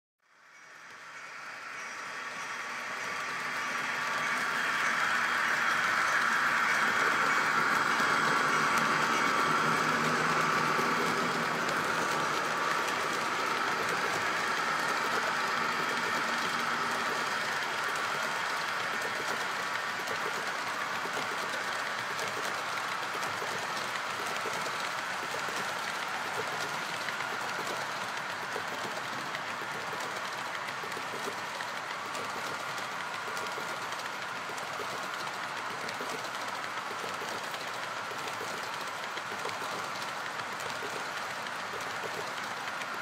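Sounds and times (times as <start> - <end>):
model train rolling on track: 0.3 - 43.0.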